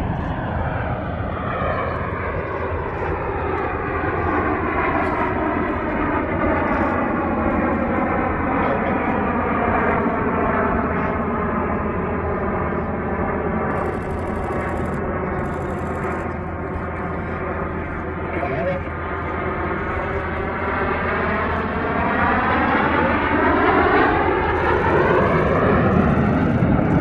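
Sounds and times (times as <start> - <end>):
jets flying past: 0.0 - 27.0.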